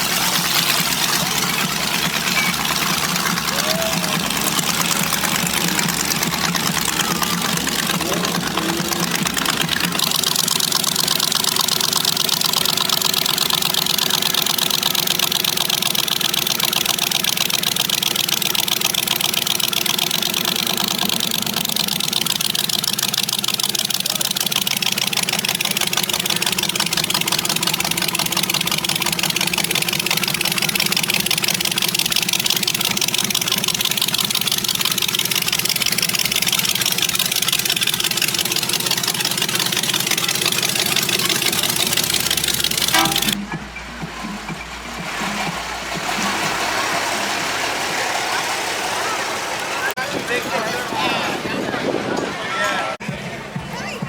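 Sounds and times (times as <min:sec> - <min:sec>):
car engine idling: 0:00.0 - 0:52.1.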